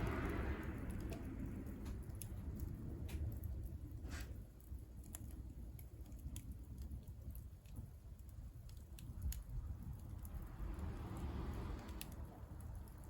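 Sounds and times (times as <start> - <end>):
fire crackling in wood stove: 0.0 - 13.0.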